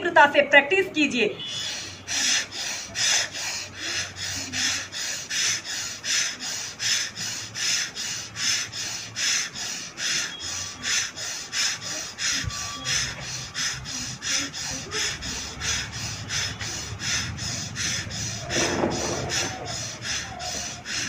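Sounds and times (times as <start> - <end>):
woman breathing forcefully through nose: 1.4 - 21.0.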